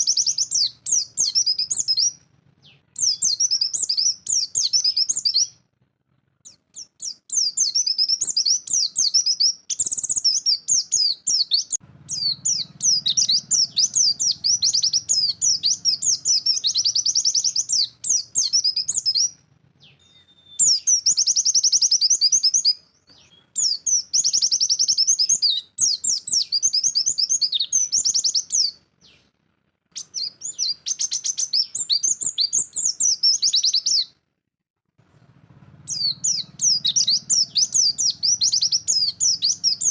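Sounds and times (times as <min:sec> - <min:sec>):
bird high-pitched twittering: 0:00.0 - 0:05.6, 0:06.4 - 0:29.3, 0:30.0 - 0:34.2, 0:35.9 - 0:39.9.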